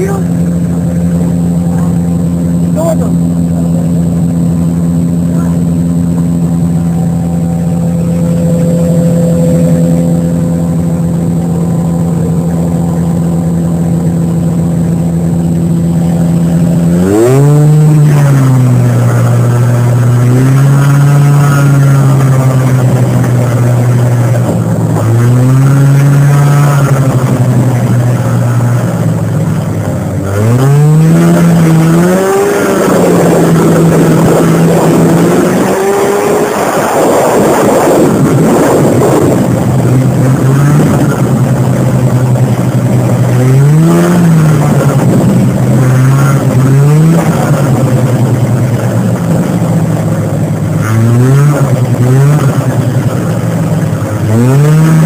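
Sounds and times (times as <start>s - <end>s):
snowmobile two-stroke engine revving: 0.0s - 55.0s.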